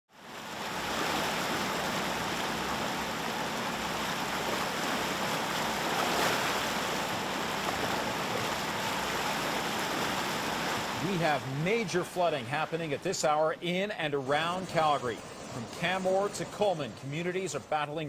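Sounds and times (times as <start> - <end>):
rushing floodwater: 0.1 - 18.0.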